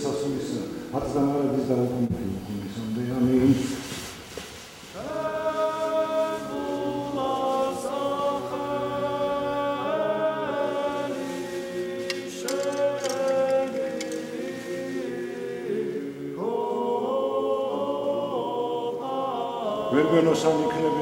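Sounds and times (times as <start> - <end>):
choir singing chant in harmony: 0.0 - 4.0, 4.9 - 21.0.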